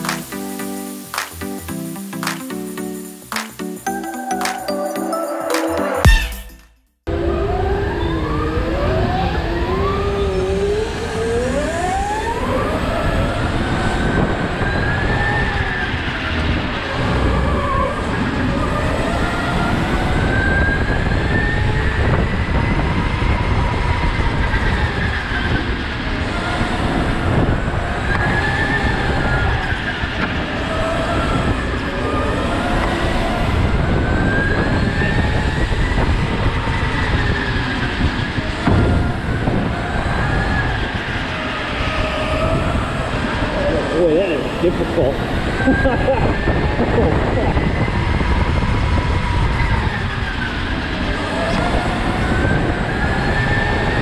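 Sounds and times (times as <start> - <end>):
low rumble of tyres: 7.1 - 54.0.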